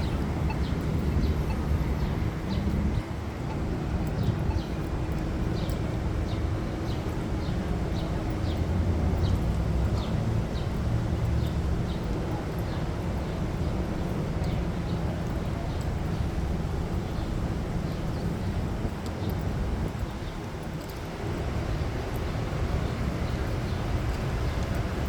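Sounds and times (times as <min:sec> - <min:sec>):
low rumble of traffic: 0:00.0 - 0:25.0.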